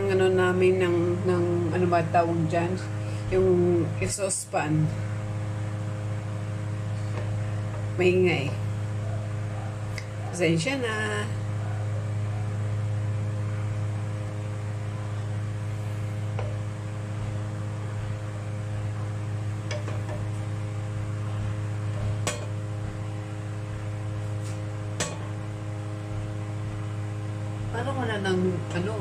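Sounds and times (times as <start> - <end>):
exhaust fan humming: 0.0 - 29.0.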